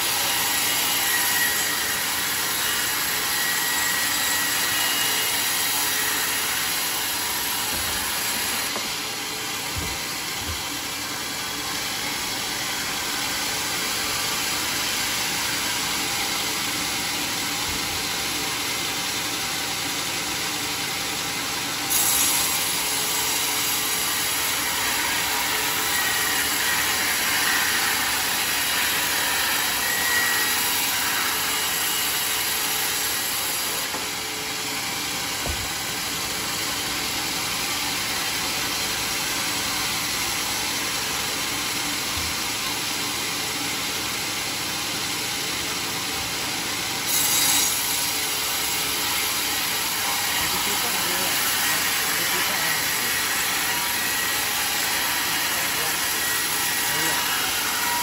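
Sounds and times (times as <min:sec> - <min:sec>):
circular saw running: 0:00.0 - 0:58.0
saw cutting through log: 0:00.0 - 0:58.0.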